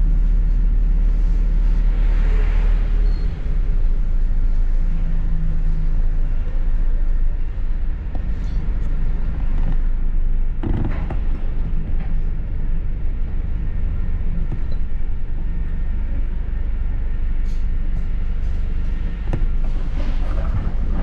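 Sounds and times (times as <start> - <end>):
bus engine and road rumble: 0.0 - 21.0
low hum: 0.0 - 21.0.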